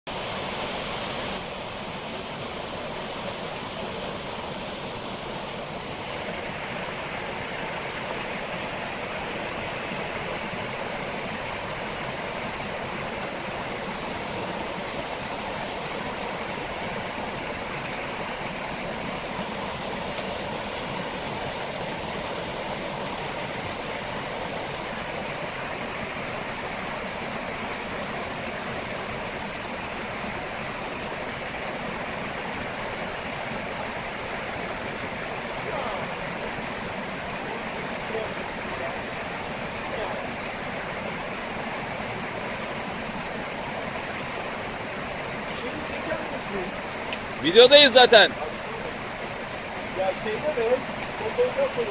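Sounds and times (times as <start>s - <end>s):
waterfall rushing: 0.1s - 51.9s.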